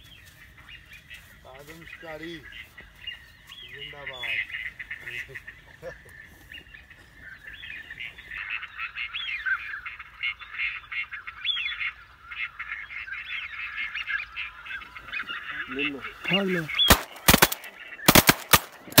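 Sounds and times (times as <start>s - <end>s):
ducks calling: 0.0s - 19.0s.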